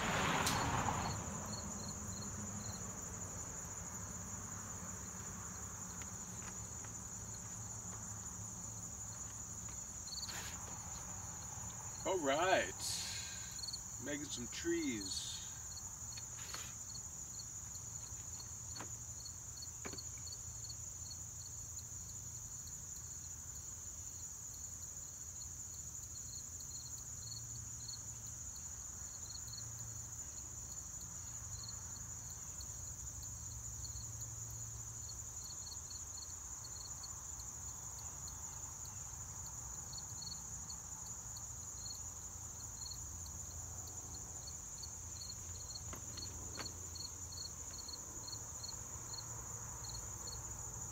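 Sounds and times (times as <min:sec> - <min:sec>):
insect chirp pulsing: 0:00.0 - 0:50.9
insects trilling: 0:00.0 - 0:50.9.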